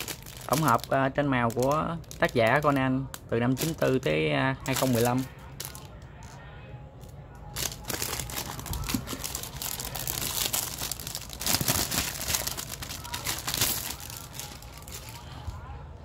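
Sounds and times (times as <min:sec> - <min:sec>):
plastic wrapping crinkling: 0:00.0 - 0:06.4, 0:07.0 - 0:15.6.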